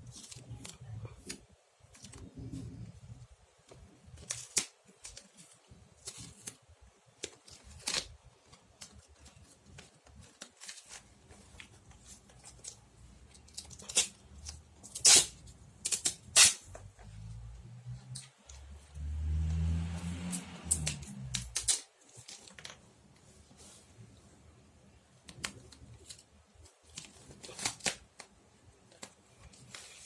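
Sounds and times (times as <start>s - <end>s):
sticky tape crackling: 0.0s - 22.9s, 25.2s - 30.0s.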